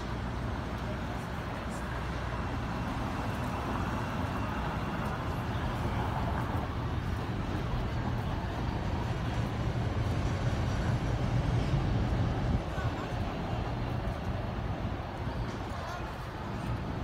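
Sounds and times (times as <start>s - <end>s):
elevated train on viaduct: 0.0s - 17.0s
road traffic: 0.0s - 17.0s.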